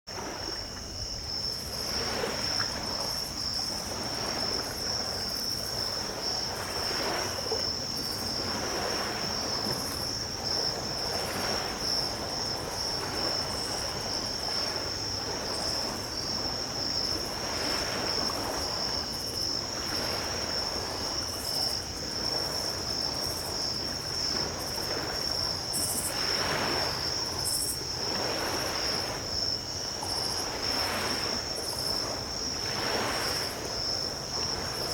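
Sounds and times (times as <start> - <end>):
crickets trilling: 0.1 - 34.9
small waves washing on beach: 0.1 - 34.9.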